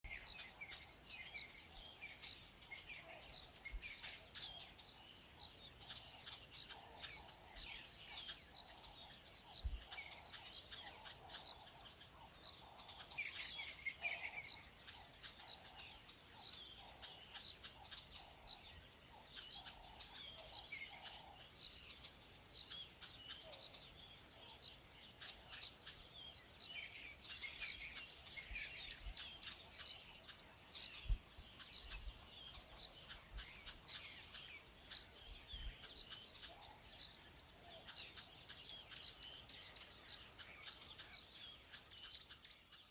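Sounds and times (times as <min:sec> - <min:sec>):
wild birds chirping: 0:00.0 - 0:42.9
insects trilling: 0:00.1 - 0:42.8.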